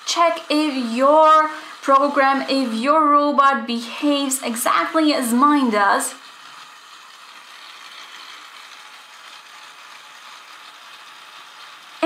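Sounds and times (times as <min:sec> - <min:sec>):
toy motor running: 0:00.0 - 0:12.0.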